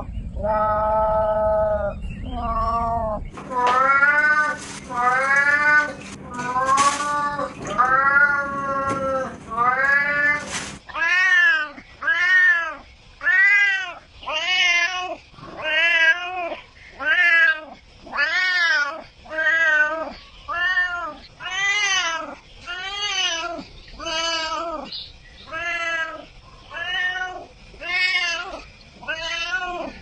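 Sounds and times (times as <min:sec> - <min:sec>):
cats meowing: 0:00.0 - 0:30.0.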